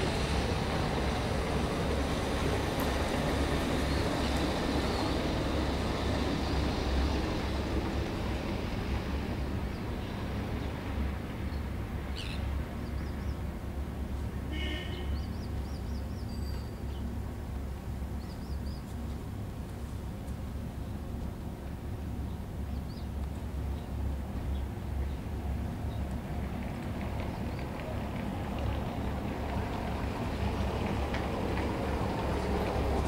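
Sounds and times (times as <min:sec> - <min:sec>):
low harbour rumble: 0:00.0 - 0:33.0.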